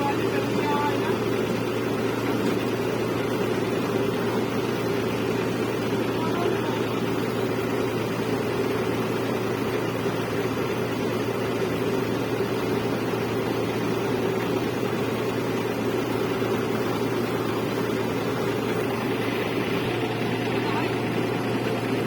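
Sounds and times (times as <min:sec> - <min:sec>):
machine engine droning steadily: 0:00.0 - 0:22.0.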